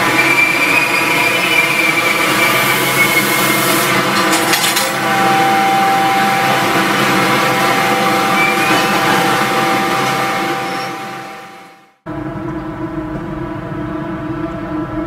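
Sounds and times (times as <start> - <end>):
thin steady whine: 0.0 - 15.0
wheels rumbling and grinding on rail: 0.0 - 15.0.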